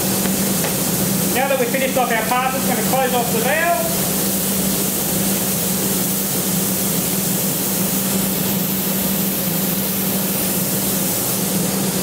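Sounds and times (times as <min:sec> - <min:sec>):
spray gun air hiss: 0:00.0 - 0:12.0.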